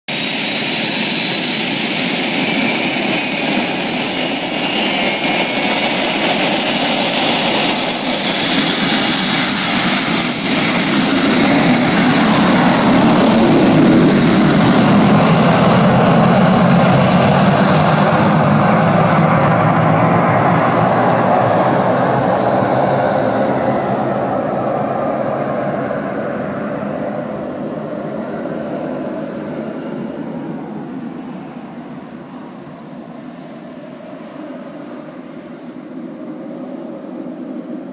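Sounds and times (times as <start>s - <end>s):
jet engine whine: 0.1s - 37.9s
jet taking off: 0.1s - 37.9s.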